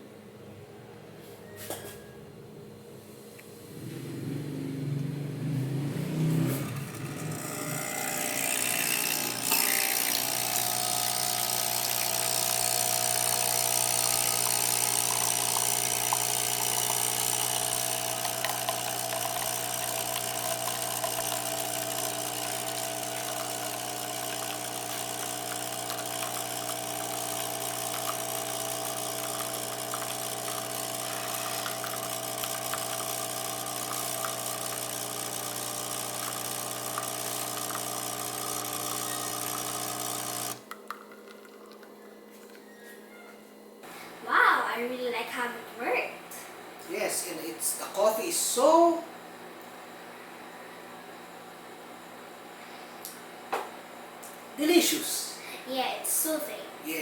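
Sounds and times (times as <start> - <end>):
coffee machine pump humming: 5.0 - 43.0, 43.8 - 57.0.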